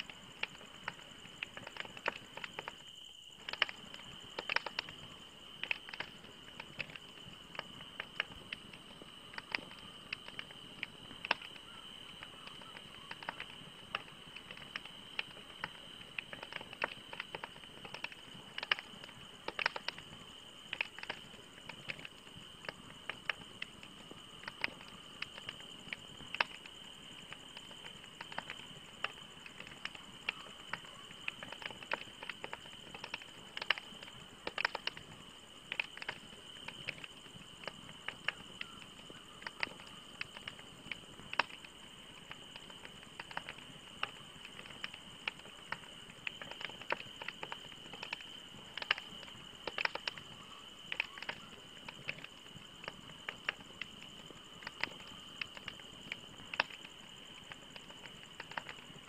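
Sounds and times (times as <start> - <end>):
logs popping and snapping: 0.0 - 2.8, 3.4 - 5.0, 5.6 - 50.2, 50.9 - 54.0, 54.6 - 59.0
soft steady hiss: 0.0 - 59.0
wood fire crackling: 0.0 - 59.0.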